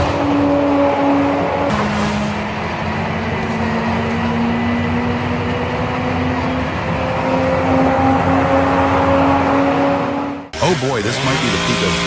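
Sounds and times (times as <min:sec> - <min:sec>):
heavy machine engine running: 0:00.0 - 0:09.2, 0:10.5 - 0:12.0.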